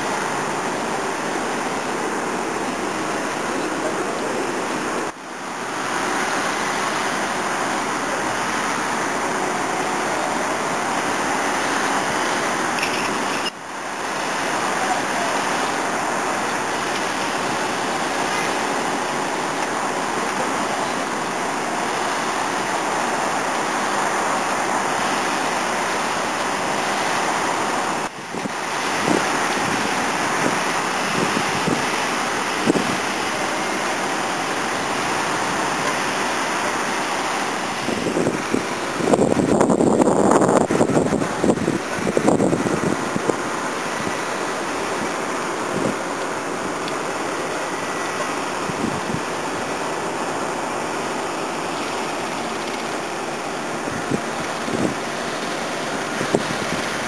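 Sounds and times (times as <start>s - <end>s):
distant city traffic: 0.0s - 57.0s.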